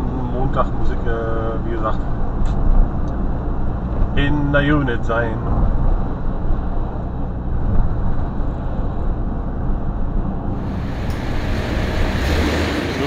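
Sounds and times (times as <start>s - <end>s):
engine and road noise in cab: 0.0s - 13.0s.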